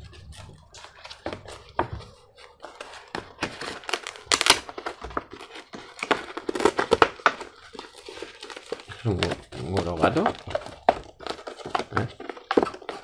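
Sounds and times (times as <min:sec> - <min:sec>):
packaging wrapper crinkling: 0:00.0 - 0:13.0.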